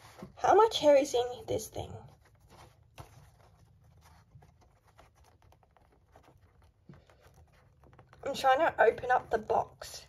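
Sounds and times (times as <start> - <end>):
fingers handling cardboard: 1.5 - 10.0.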